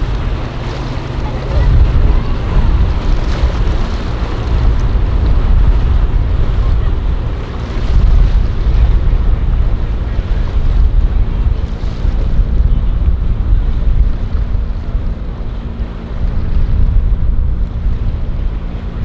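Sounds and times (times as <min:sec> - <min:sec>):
boat motors droning: 0:00.0 - 0:19.0
waves washing: 0:00.0 - 0:19.0
wind rumbling on microphone: 0:00.0 - 0:19.0.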